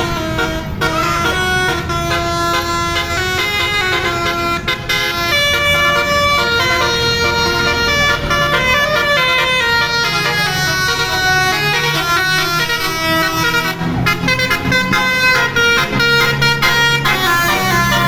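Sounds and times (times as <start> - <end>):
bus engine rumble: 0.0 - 18.0
multi-tone air horns playing a tune: 0.0 - 18.0.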